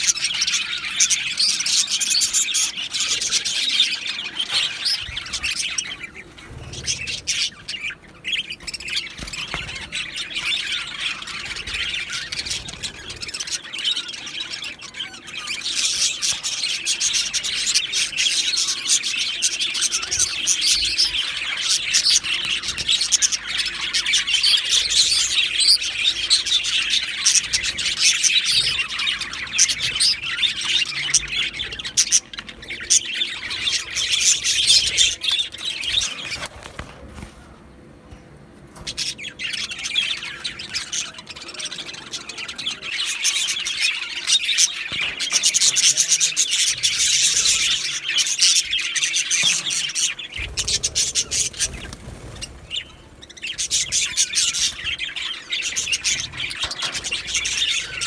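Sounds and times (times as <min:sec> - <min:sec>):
budgerigars chirping and warbling: 0:00.0 - 0:37.5, 0:38.2 - 0:58.0.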